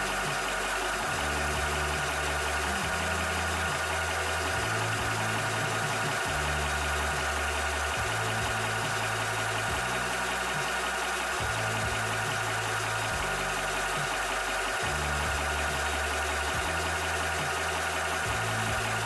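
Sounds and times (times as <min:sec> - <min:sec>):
air compressor running: 0:00.0 - 0:19.0
cooling fan: 0:00.0 - 0:19.0.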